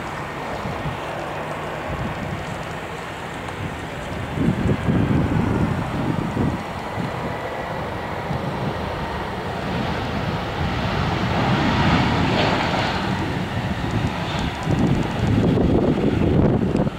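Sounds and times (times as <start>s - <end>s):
jet engines roaring: 0.0s - 16.9s
wind buffeting microphone: 0.0s - 16.9s.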